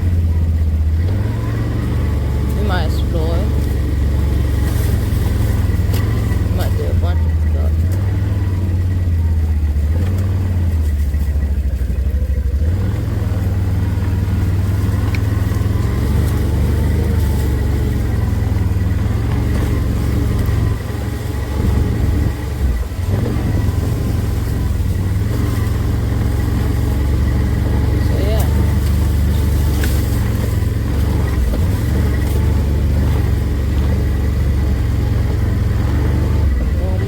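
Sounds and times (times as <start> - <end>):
small vehicle engine droning: 0.0 - 37.0.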